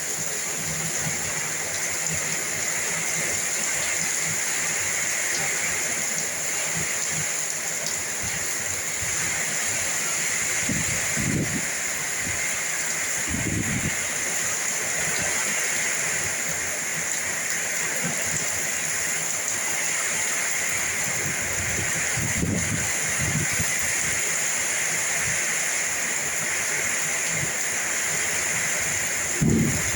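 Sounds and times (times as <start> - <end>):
heavy rain downpour: 0.0 - 29.9
wind: 0.0 - 29.9.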